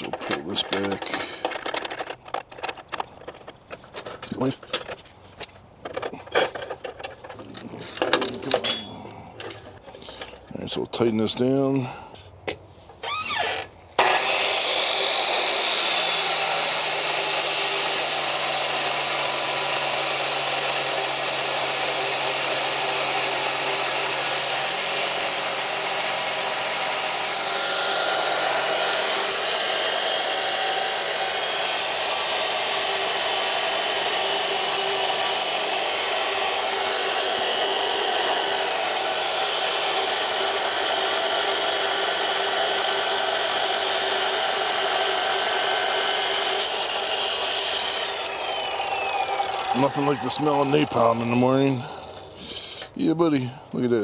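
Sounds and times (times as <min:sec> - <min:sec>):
power saw cutting steel: 0:00.0 - 0:03.6, 0:13.0 - 0:54.0.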